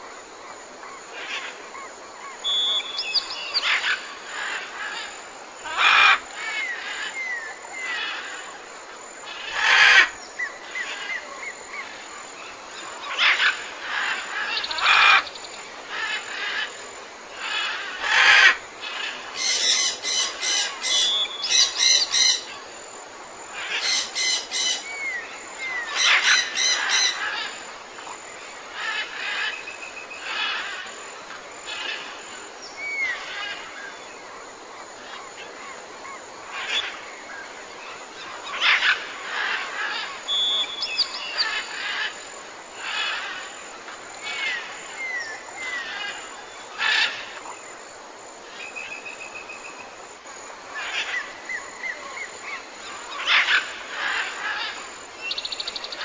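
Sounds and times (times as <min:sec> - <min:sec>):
songbirds chirping: 0:00.5 - 0:56.0.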